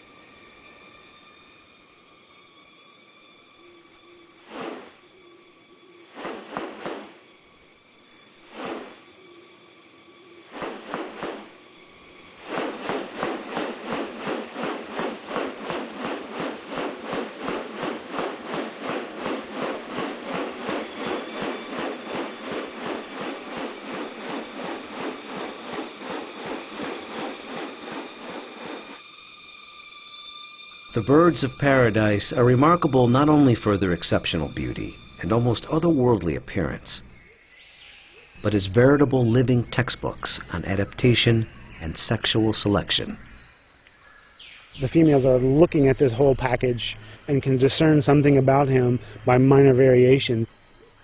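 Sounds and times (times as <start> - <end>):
insects humming: 0.0 - 51.0.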